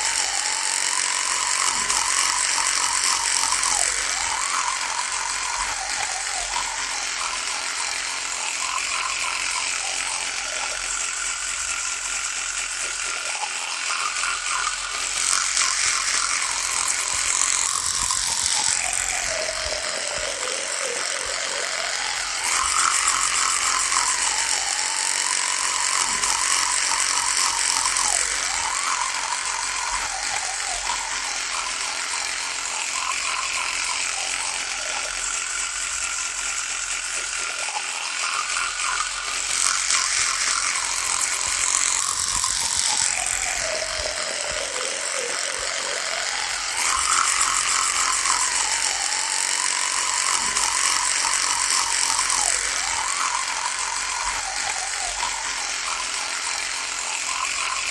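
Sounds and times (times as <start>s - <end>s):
electric toothbrush buzzing: 0.0s - 57.9s.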